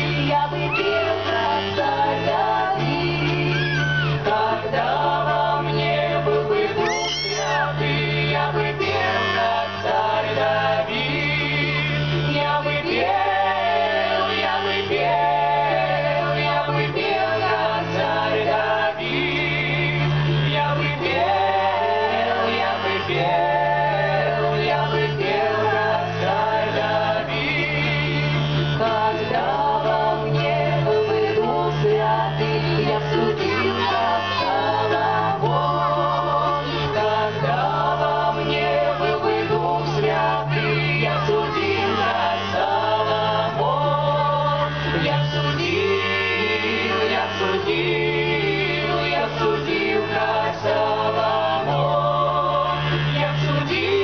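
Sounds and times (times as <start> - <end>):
accordion chords: 0.0 - 54.0
mixed voices singing in harmony: 0.0 - 54.0.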